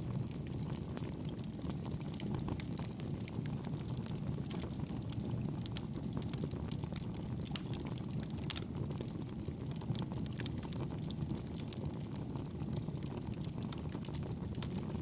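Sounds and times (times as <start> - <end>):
wood fire crackling: 0.1 - 15.0.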